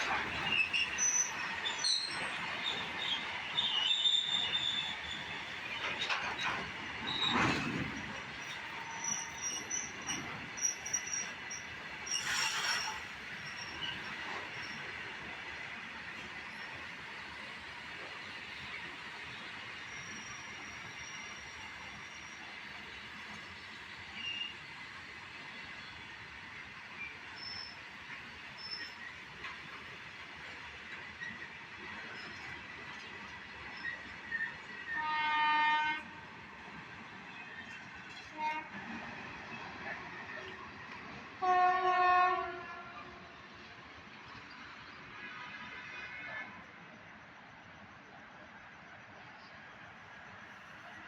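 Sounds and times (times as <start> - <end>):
train cars rumbling: 0.0 - 43.6
train wheels squealing on rails: 0.0 - 51.0.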